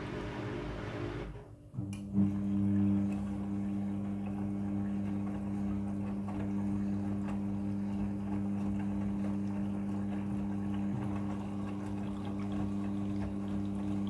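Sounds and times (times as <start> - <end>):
drain pump humming: 0.0 - 14.0.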